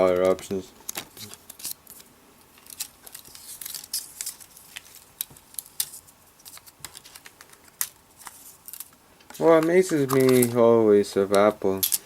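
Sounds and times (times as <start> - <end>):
paper crinkling and tapping: 0.0 - 12.0.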